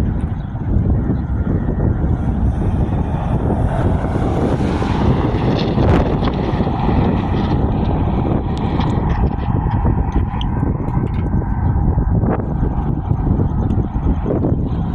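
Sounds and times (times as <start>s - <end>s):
road traffic passing: 0.0s - 14.9s
wind on microphone: 0.0s - 14.9s.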